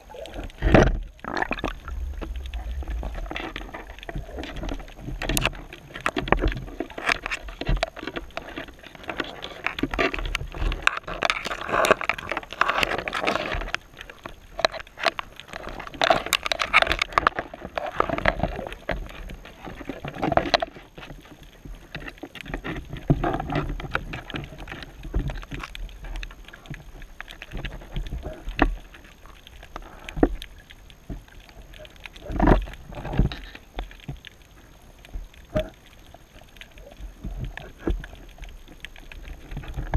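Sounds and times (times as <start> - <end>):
underwater surf rushing: 0.0 - 39.9.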